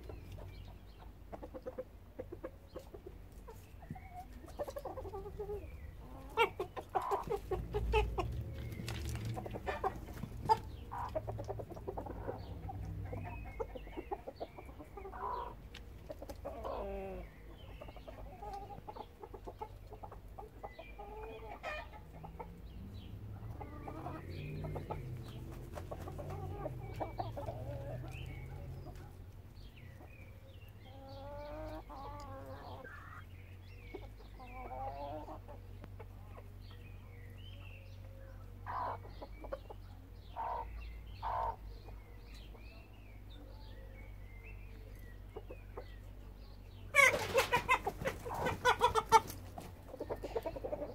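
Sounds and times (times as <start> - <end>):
chickens clucking and calling: 0.0 - 50.9.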